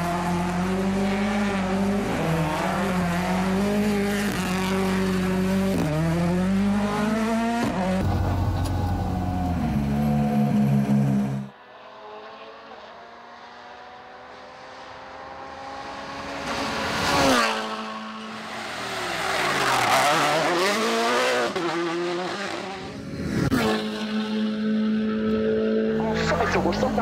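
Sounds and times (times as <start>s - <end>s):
rally car engine passing: 0.0s - 27.0s.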